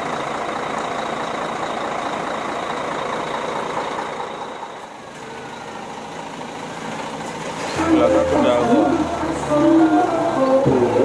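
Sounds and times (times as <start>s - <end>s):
bus engines idling: 0.0s - 11.0s
rain falling: 0.0s - 11.0s.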